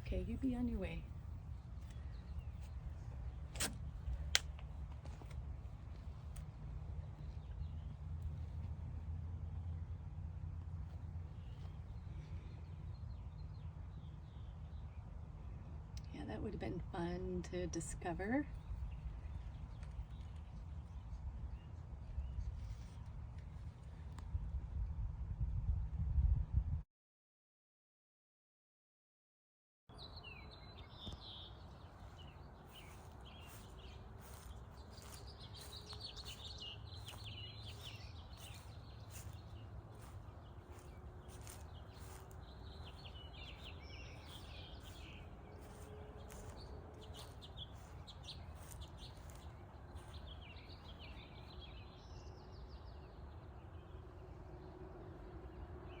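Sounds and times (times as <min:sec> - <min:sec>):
songbirds chirping: 0:00.0 - 0:24.3, 0:29.9 - 0:56.0
low outdoor rumble: 0:00.0 - 0:26.8, 0:30.8 - 0:56.0.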